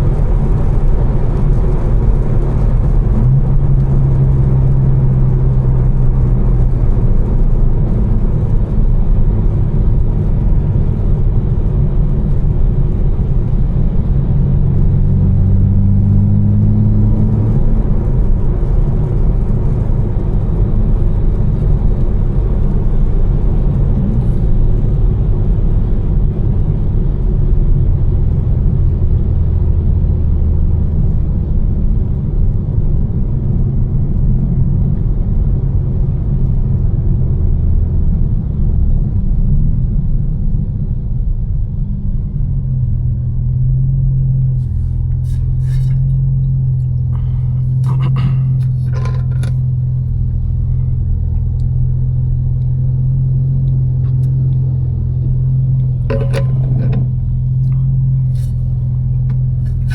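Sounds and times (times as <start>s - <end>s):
car engine drone: 0.0s - 59.9s
road and tyre noise: 0.0s - 59.9s.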